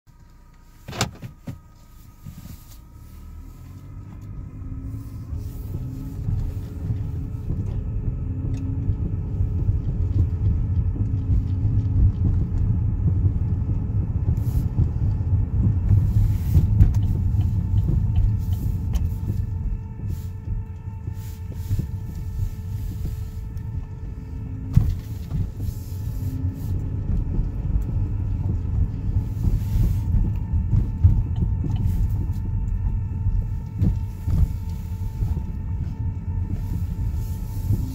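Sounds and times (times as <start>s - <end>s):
car engine low rumble: 0.0s - 37.9s
steady high whine: 0.2s - 37.9s.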